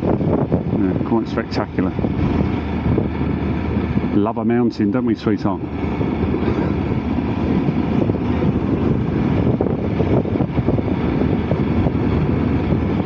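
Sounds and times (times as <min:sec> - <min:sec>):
motorcycle engine drone: 0:00.0 - 0:13.0
wind rushing over microphone: 0:00.0 - 0:13.0.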